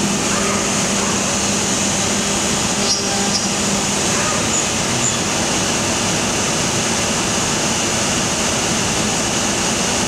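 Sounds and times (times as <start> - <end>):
router machine rushing noise: 0.0 - 9.2.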